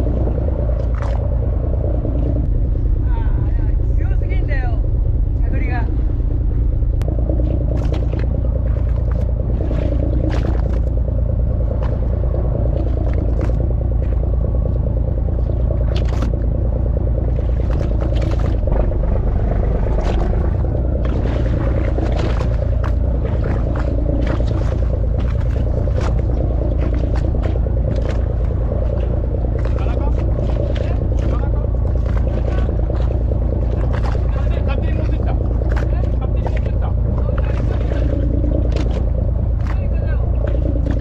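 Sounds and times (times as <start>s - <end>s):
boat engine idling: 0.0s - 41.0s
water splashing: 0.0s - 41.0s.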